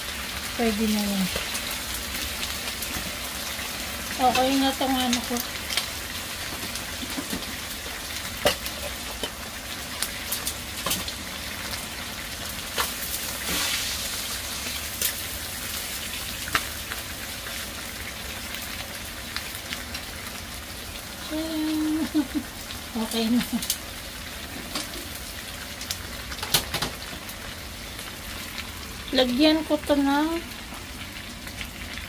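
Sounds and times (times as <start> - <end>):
chicken and onion sizzling in oil: 0.0 - 32.0
oil popping and crackling: 0.0 - 32.0.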